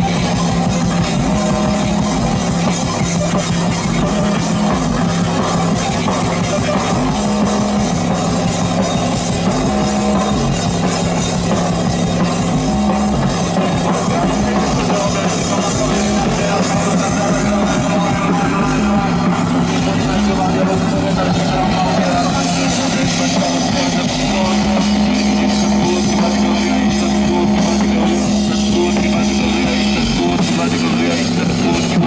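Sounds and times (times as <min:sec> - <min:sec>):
distorted synthesizer: 0:00.0 - 0:32.0
drum kit: 0:00.0 - 0:32.0.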